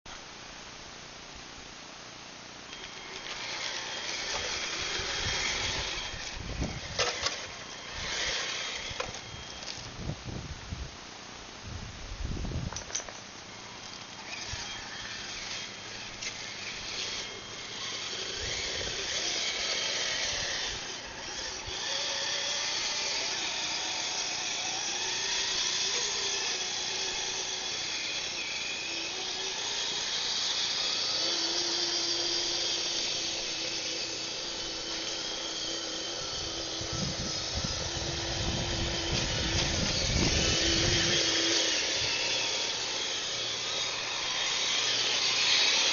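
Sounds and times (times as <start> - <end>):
electric motor whine: 2.6 - 11.0, 12.2 - 45.9.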